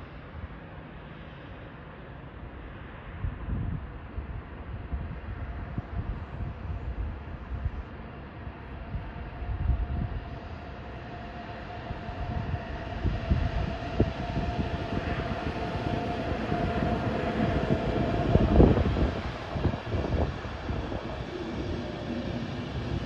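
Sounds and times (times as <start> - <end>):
train whine: 0.0 - 23.0.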